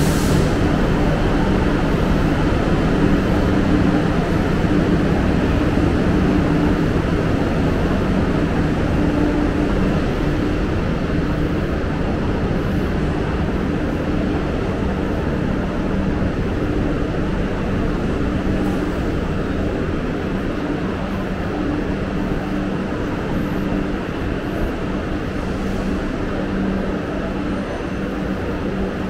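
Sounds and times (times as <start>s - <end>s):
low hum from trains: 0.0s - 29.0s
railway station rumble: 0.0s - 29.0s.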